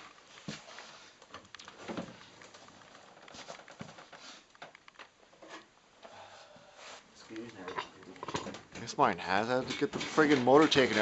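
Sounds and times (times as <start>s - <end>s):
rustling of people moving: 0.0s - 11.0s.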